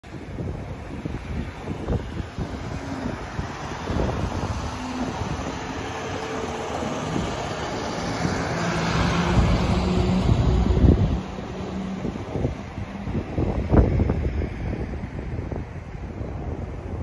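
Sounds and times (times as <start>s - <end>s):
wind on microphone: 0.0s - 17.0s
bus driving past: 0.1s - 17.0s
car passing: 0.4s - 17.0s.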